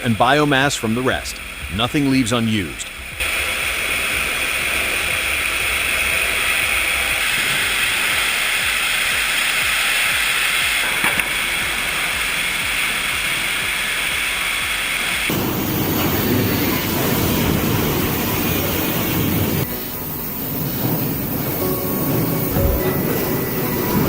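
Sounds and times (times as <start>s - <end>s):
sawmill machine hiss: 0.0s - 24.0s.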